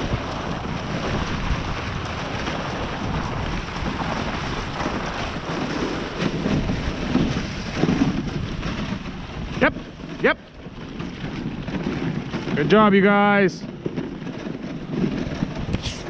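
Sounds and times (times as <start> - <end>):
sled runners sliding over snow: 0.0 - 16.0
wind buffeting microphone: 0.0 - 16.0.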